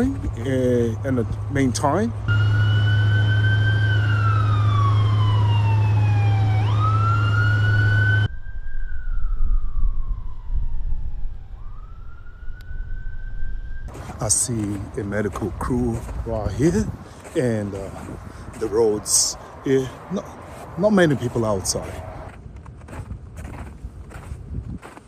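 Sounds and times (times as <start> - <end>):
ambulance siren wailing: 0.0 - 22.4.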